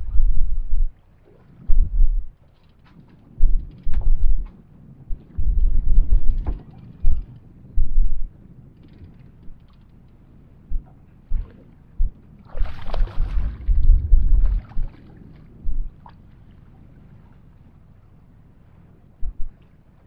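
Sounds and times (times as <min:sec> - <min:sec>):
water sloshing against boat hull: 0:00.0 - 0:20.0
wind buffeting microphone: 0:00.0 - 0:20.0.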